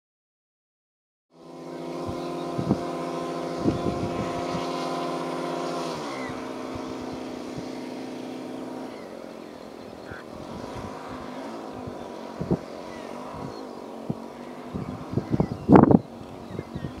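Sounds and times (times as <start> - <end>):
model airplane engines running: 1.4 - 17.0
wind buffeting microphone: 1.7 - 17.0.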